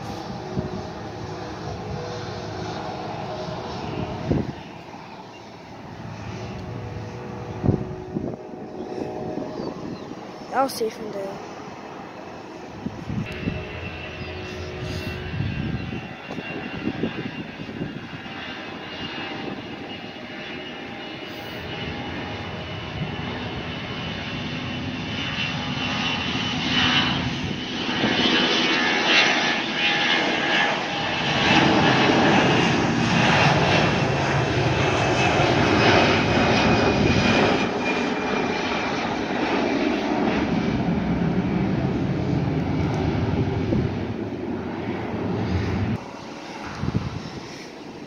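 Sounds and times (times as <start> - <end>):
jet engines at takeoff: 0.0 - 48.0.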